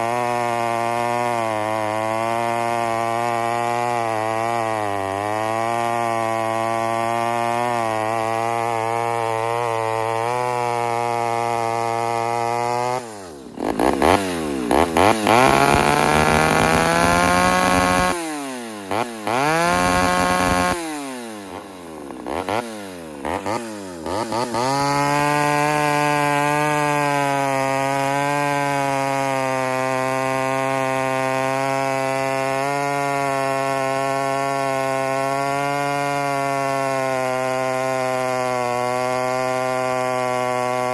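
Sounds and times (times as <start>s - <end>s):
chainsaw idling and revving: 0.0s - 40.9s.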